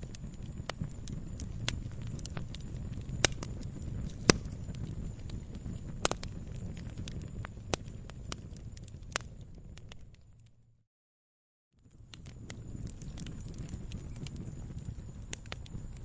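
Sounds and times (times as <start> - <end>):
wood fire crackling: 0.0 - 10.6, 11.8 - 16.0.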